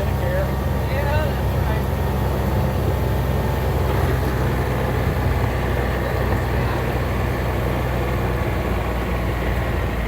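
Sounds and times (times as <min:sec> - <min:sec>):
vehicle engine and road drone: 0:00.0 - 0:10.0.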